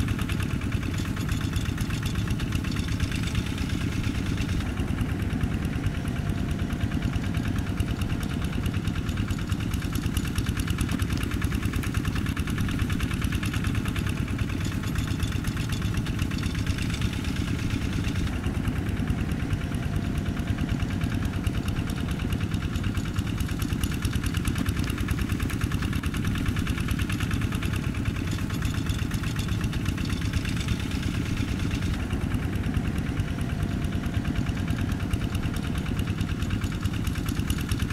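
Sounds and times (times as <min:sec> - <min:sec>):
diesel engine chugging: 0:00.0 - 0:37.9.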